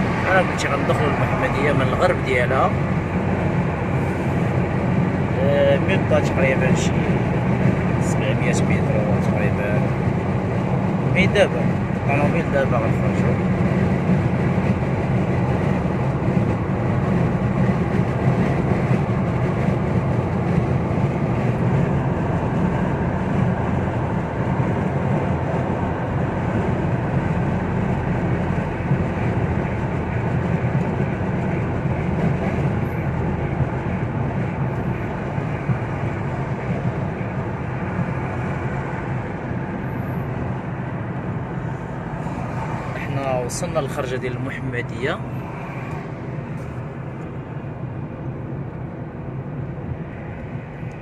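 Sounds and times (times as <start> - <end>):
car cabin road and engine noise: 0.0 - 51.0.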